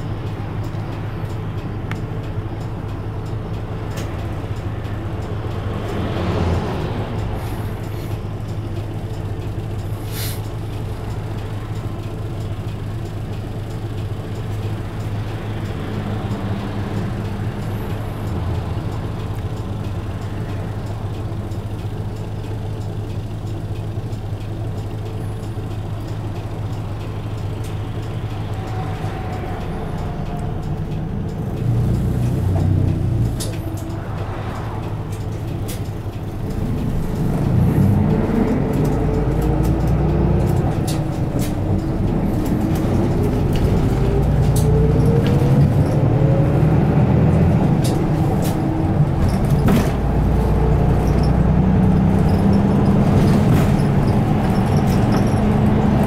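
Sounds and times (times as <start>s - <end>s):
bus diesel engine idling: 0.0s - 5.8s, 7.0s - 56.0s.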